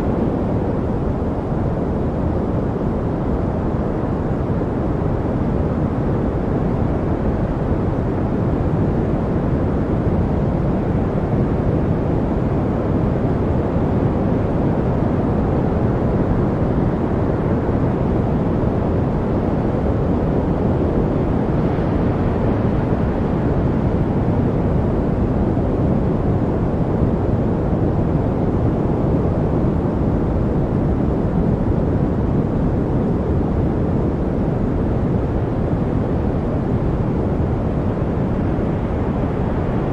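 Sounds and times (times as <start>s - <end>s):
deep white noise rush: 0.0s - 39.9s.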